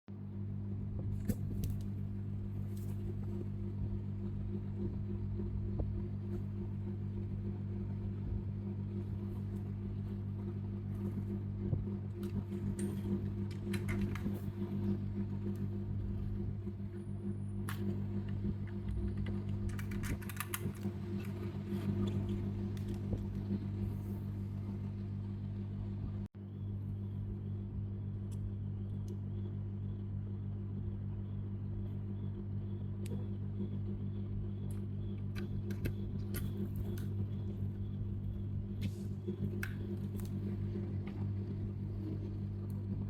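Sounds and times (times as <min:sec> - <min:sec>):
steady low hum: 0:00.1 - 0:43.0.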